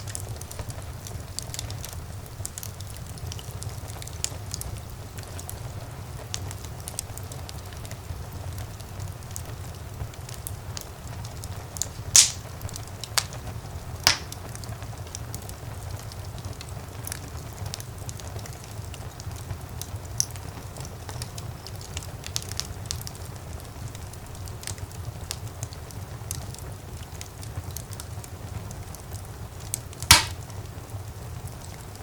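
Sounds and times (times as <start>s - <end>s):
fireplace fire crackling: 0.0s - 32.0s
loud fire pops: 0.0s - 32.0s.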